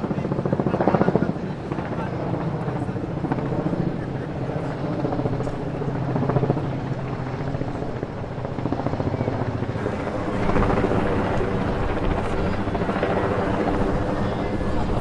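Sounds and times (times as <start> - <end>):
crowd walking and talking: 0.0 - 15.0
wind buffeting microphone: 0.5 - 15.0.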